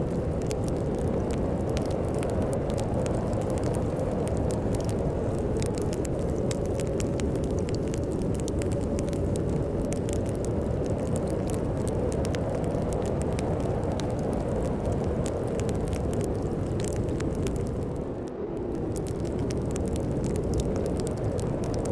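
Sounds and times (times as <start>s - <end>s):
storm wind rumbling: 0.0s - 21.9s
wood fire crackling: 0.0s - 21.9s.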